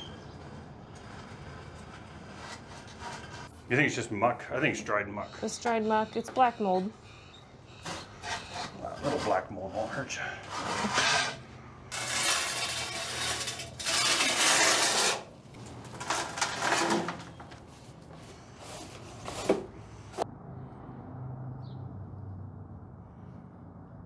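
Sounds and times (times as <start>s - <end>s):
scraper scraping concrete floor: 0.0s - 20.2s.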